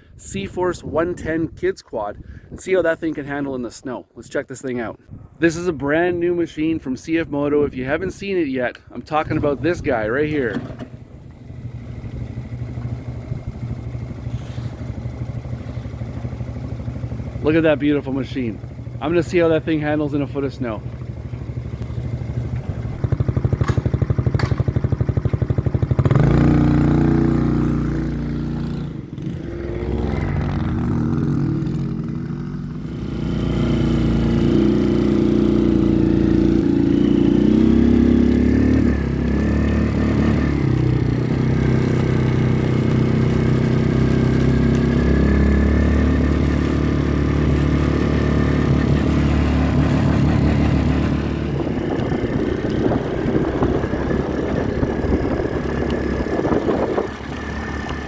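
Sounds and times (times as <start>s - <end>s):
quad engine revving: 9.1s - 58.0s.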